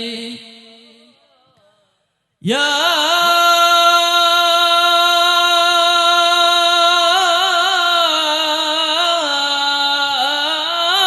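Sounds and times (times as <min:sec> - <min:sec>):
solo voice chanting: 0:00.0 - 0:11.0.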